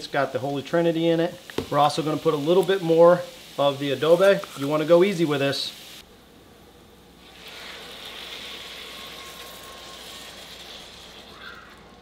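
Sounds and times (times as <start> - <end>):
steady sizzle: 0.0 - 12.0
sauce pouring into skillet: 0.2 - 6.0, 7.2 - 12.0.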